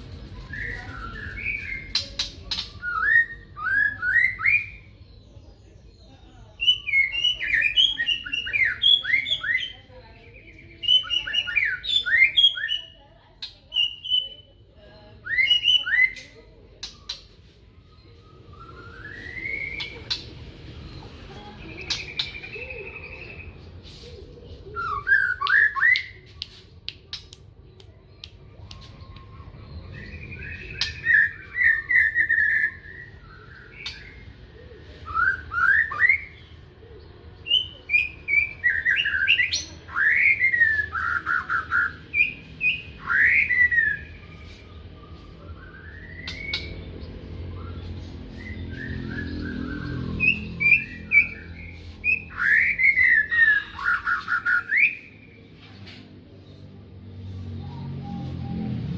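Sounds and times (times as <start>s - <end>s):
songbird singing: 0.0s - 58.9s.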